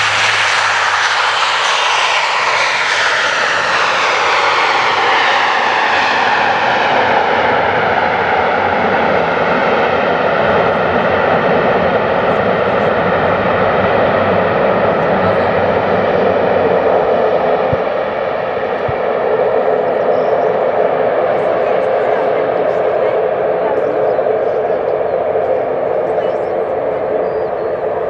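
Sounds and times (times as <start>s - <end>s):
military aircraft flying low overhead: 0.0s - 28.0s.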